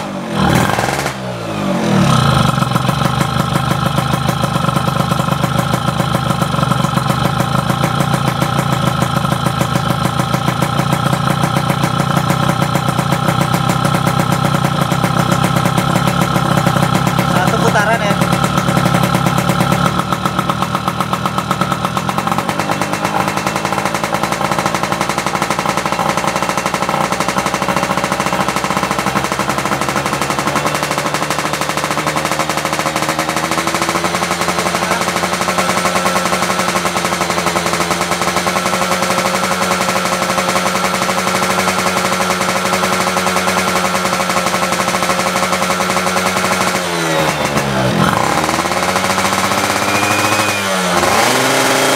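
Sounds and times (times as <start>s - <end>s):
two-stroke engine idling: 0.0s - 51.9s.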